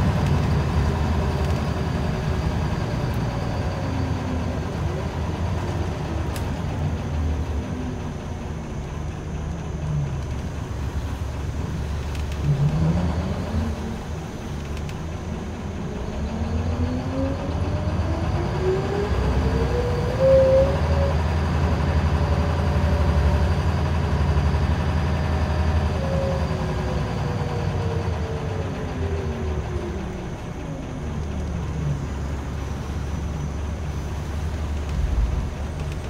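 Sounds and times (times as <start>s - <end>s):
bus engine drone and whine: 0.0s - 36.0s.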